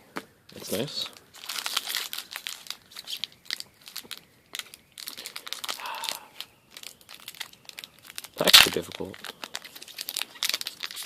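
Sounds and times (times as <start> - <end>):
wrapper crinkling and tearing: 0.6 - 11.0.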